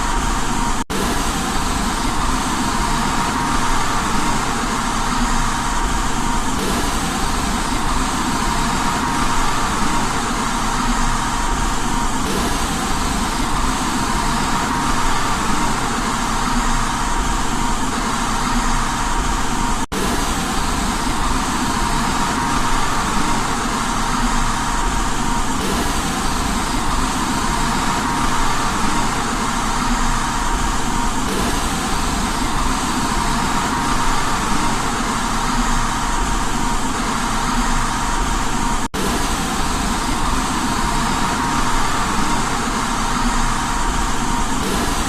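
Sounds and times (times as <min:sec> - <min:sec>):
steady white noise: 0:00.0 - 0:45.0
thin steady tone: 0:00.0 - 0:45.0.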